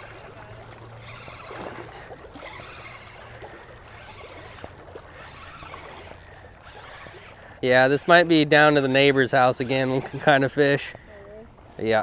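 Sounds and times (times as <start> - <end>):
spinning reel cranked: 0.0 - 0.4, 1.0 - 10.5
small irregular ticks: 0.0 - 10.4
water noise: 0.0 - 12.0.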